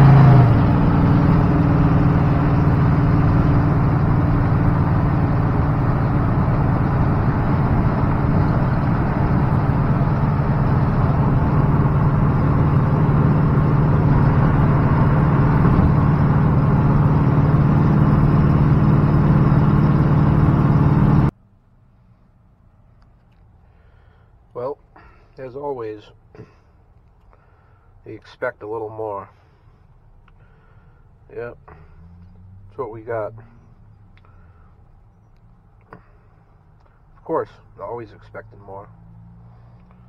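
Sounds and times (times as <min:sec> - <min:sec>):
road and wind noise: 0:00.0 - 0:40.0
truck engine and exhaust drone: 0:00.0 - 0:40.0.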